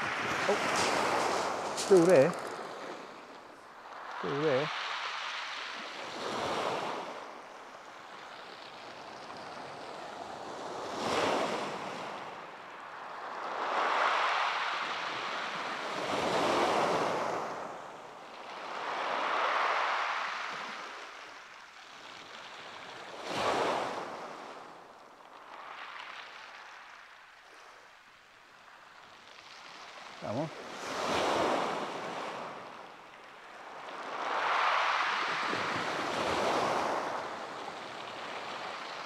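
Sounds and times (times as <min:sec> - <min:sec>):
waves breaking on shingle beach: 0:00.0 - 0:39.0.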